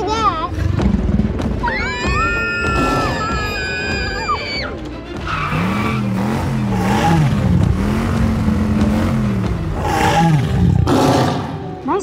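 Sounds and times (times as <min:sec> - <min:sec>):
car engine revving: 0:00.0 - 0:11.8
tyres skidding: 0:00.0 - 0:12.0.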